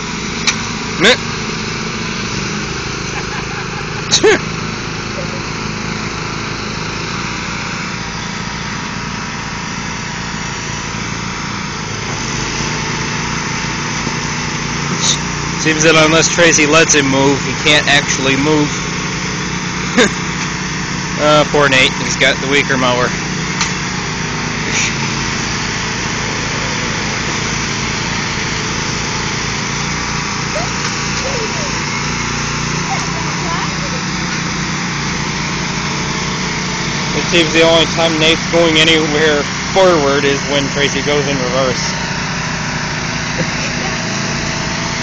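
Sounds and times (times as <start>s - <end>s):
riding lawn mower engines: 0.0s - 45.0s.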